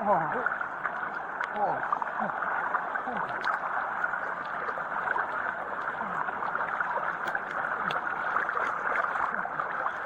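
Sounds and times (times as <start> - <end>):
rushing floodwater: 0.0 - 10.0.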